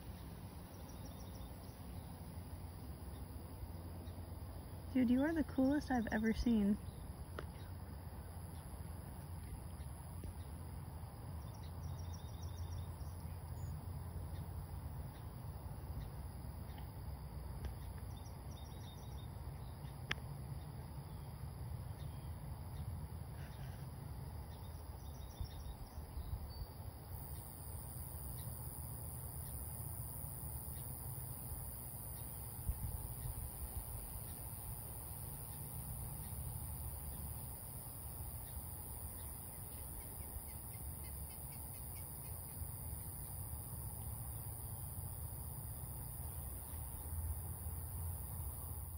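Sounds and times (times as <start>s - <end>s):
high insect drone: 0.0s - 48.9s
insect chirps: 0.0s - 48.9s.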